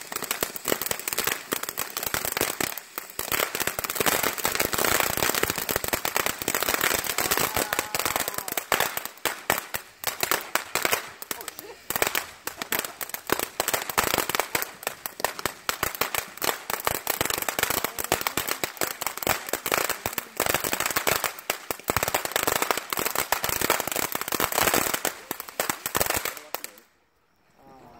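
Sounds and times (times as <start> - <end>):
firecrackers popping: 0.0 - 27.0.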